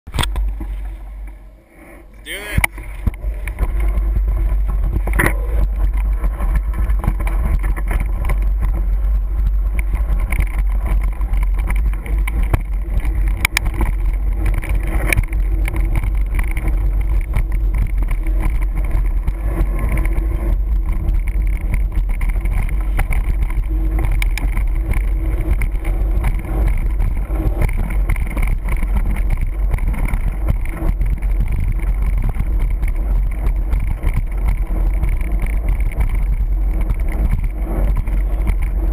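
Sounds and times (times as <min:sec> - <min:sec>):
tyre noise: 0:00.1 - 0:38.9
wind rumbling on microphone: 0:00.1 - 0:38.9.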